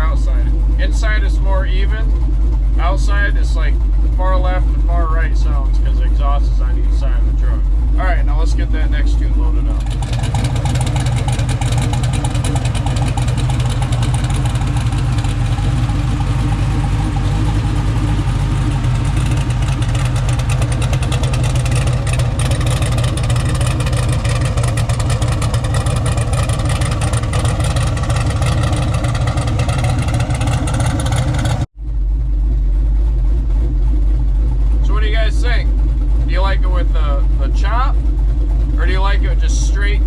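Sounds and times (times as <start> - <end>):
pickup truck engine idling: 0.0 - 40.0.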